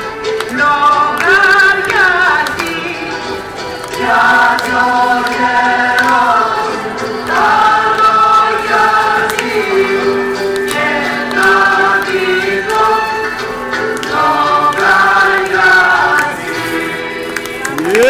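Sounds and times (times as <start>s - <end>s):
folk dance song: 0.0s - 18.0s
instrumental accompaniment: 0.0s - 18.0s
person singing: 0.0s - 18.0s.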